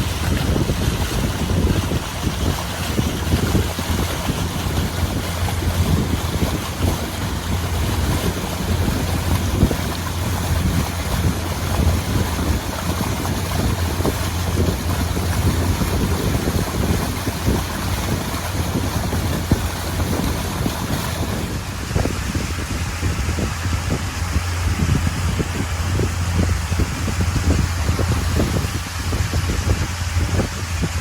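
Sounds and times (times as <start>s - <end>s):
boat motor droning: 0.0s - 31.0s
water rushing: 0.0s - 31.0s
wind buffeting microphone: 0.0s - 31.0s.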